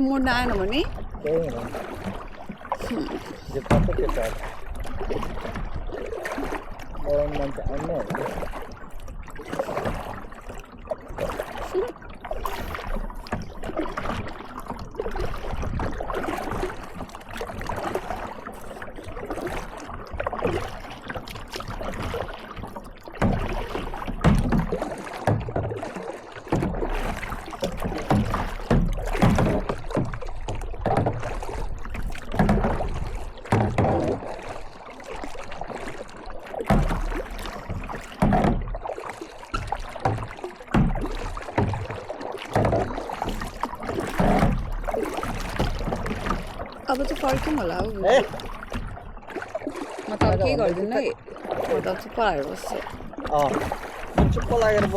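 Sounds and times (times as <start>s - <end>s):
kayak paddle splashing in water: 0.0s - 54.9s.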